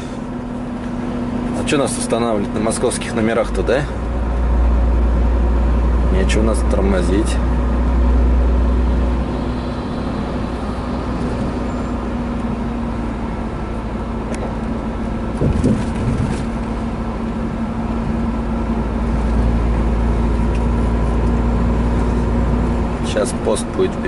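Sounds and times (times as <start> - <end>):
road noise: 0.0 - 24.0
truck engine drone: 0.0 - 24.0.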